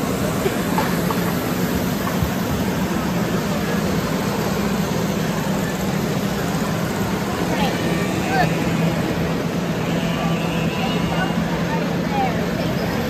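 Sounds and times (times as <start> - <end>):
distant voices: 0.0 - 13.0.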